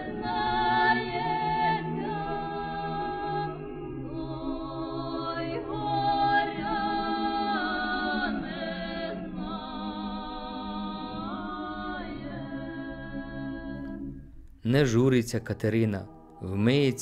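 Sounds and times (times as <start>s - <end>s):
unaccompanied choir singing: 0.0s - 17.0s.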